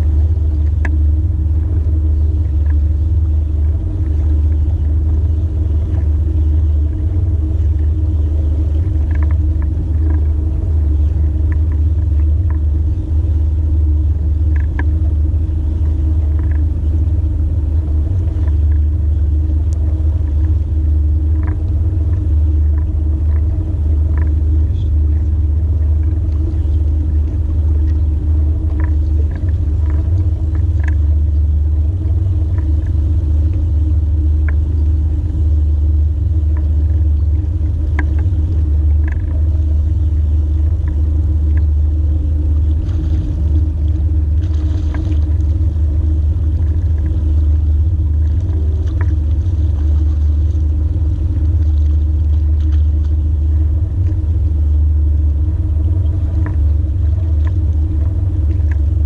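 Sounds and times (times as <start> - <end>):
boat motor rumbling: 0.0 - 59.0
constant hum: 0.0 - 59.0
faint ticks: 0.4 - 59.0.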